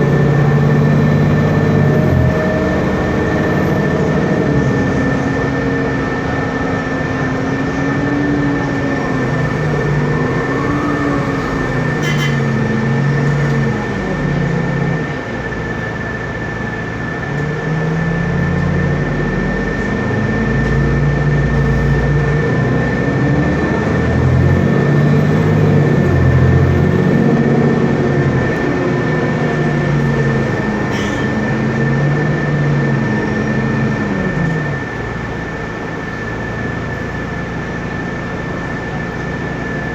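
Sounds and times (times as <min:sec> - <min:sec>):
bus diesel engine accelerating: 0:00.0 - 0:39.9
steady high whine: 0:00.0 - 0:39.9.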